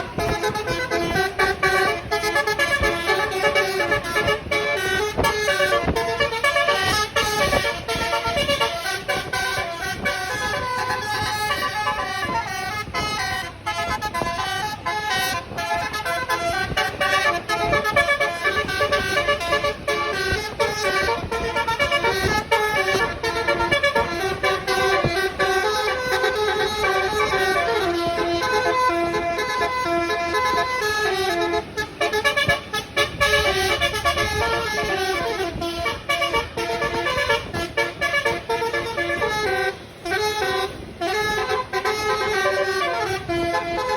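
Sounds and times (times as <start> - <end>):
multi-tone bus horn tune: 0.0 - 43.9.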